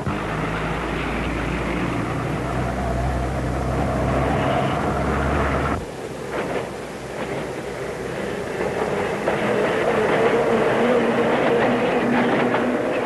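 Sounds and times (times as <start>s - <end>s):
vehicle engine hum with whine: 0.0s - 13.0s.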